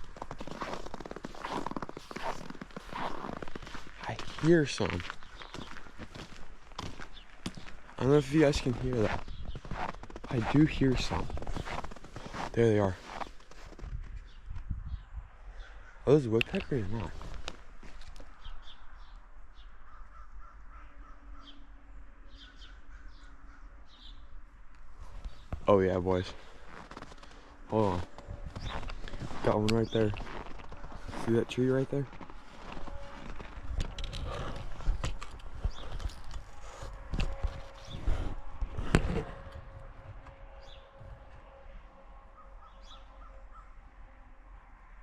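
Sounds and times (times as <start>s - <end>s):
birds chirping: 0.0s - 43.8s
lower bird notes: 0.0s - 44.9s.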